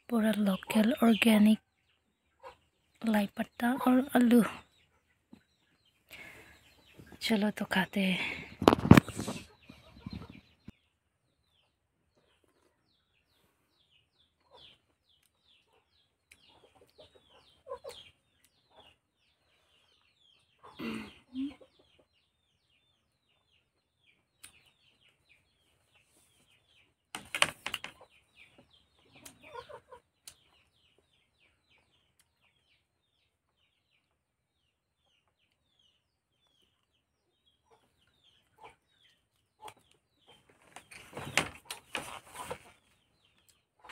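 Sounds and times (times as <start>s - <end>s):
chicks peeping: 0.2s - 43.9s.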